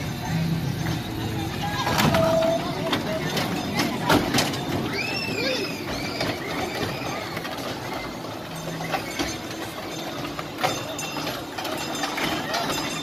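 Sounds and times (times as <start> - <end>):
roller coaster rattling on track: 0.0 - 13.0
high squeals: 0.7 - 13.0.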